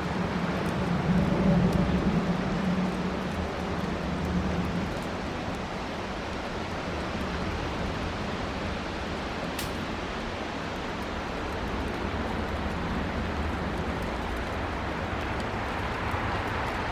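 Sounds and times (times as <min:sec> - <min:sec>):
wind rushing through pine trees: 0:00.0 - 0:16.9.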